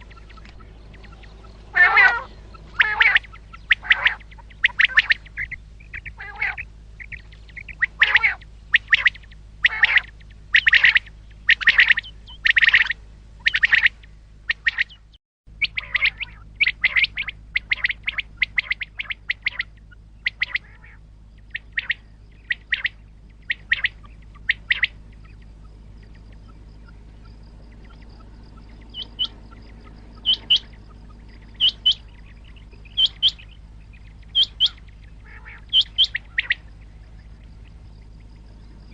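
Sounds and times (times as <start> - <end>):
low steady hum: 0.0 - 38.9
quail calling: 0.0 - 38.9.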